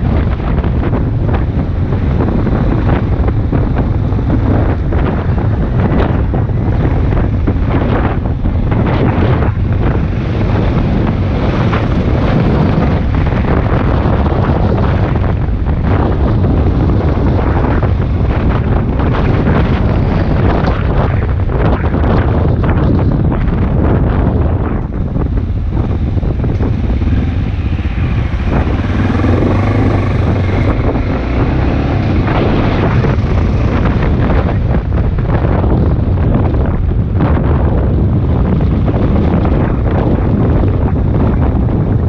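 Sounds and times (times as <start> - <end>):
wind buffeting the microphone: 0.0 - 42.0.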